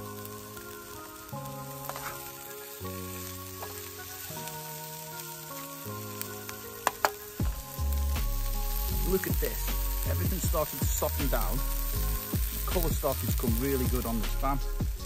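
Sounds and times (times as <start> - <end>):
background music of sustained chords: 0.0 - 15.0
food sizzling in a pan: 0.0 - 15.0
spatula stirring: 1.7 - 15.0.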